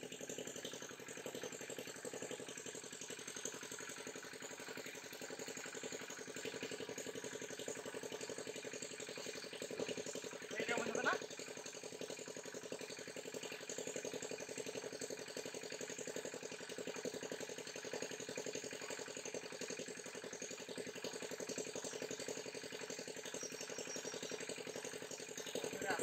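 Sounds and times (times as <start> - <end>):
small engine chugging: 0.0 - 26.0.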